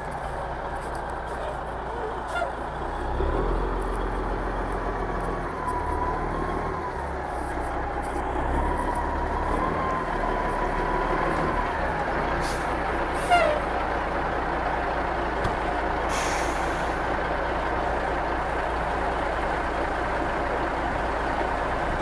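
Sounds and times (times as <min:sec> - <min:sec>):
vehicle engine low rumble: 0:00.0 - 0:22.0.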